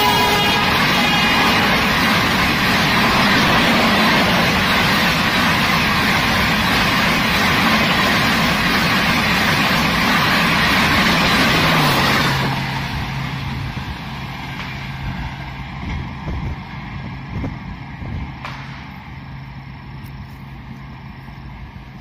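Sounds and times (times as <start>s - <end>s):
train coaches roaring past: 0.0s - 22.0s.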